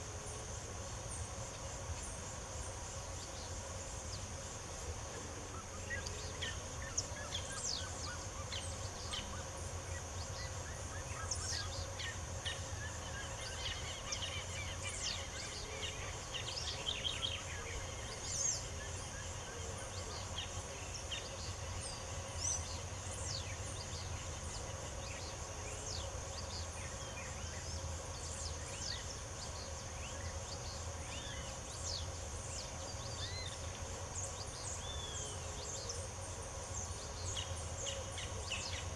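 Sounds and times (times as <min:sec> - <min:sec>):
insects droning: 0:00.0 - 0:38.9
songbirds chirping: 0:00.0 - 0:38.9.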